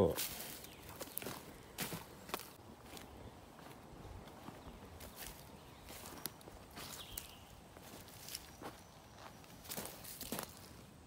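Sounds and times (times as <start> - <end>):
hooves stepping on dry ground: 0.0 - 11.0.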